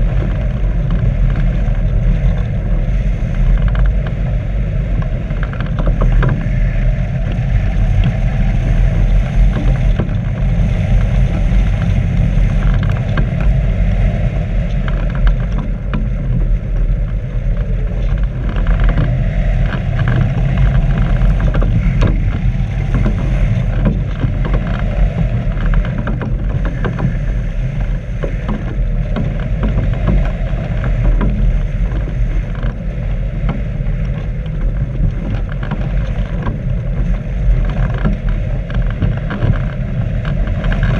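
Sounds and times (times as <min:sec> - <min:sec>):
small clicks and rattles: 0:00.0 - 0:04.2, 0:04.9 - 0:40.9
wind noise rumble: 0:00.0 - 0:40.9.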